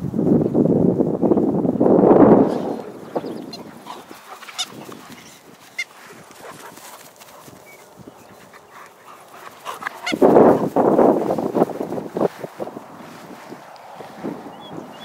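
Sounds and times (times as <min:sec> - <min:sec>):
wind gusts on microphone: 0:00.0 - 0:15.0
dogs running on grass: 0:02.8 - 0:15.0.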